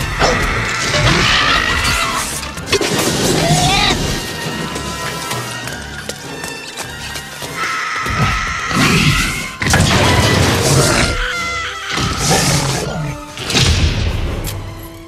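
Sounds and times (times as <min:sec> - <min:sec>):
tense orchestral score: 0:00.0 - 0:15.0.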